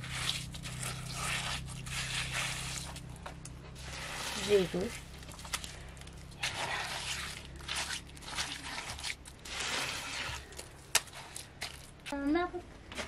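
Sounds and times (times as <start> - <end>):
mud squelching and scraping by hand: 0.0 - 12.2.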